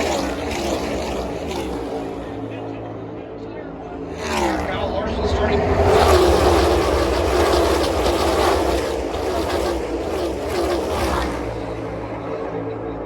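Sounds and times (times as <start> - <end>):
wind or road rumble: 0.0 - 2.5, 4.0 - 12.3
vehicle engine: 0.0 - 13.0.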